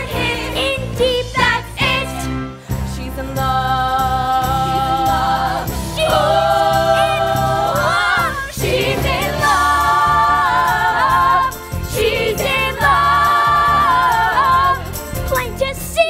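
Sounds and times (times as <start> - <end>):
female choir singing in harmony: 0.0 - 2.6, 3.6 - 15.0
musical accompaniment: 0.0 - 16.0.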